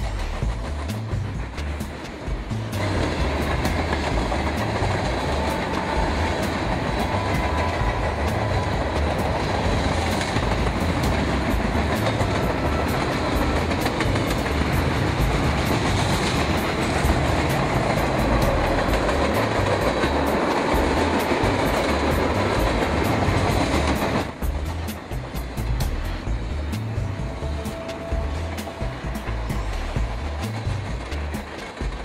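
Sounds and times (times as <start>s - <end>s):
train rumbling over track: 0.0s - 32.0s
wheels clicking over rail joints: 0.0s - 32.0s.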